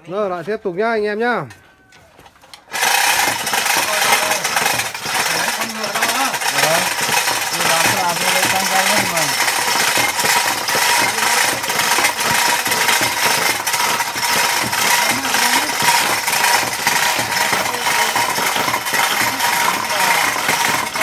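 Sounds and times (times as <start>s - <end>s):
machine running with fast rattle: 2.7s - 21.0s.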